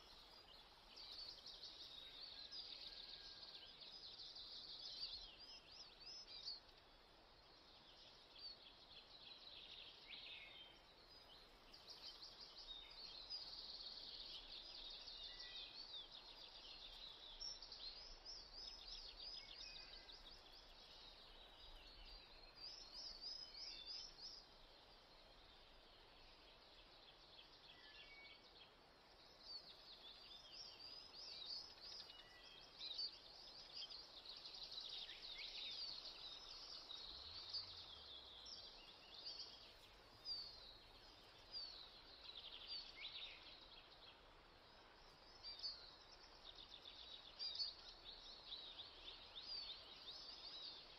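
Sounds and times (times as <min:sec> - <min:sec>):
faint birds chirping: 0:00.0 - 0:50.9
soft hiss: 0:00.0 - 0:50.9.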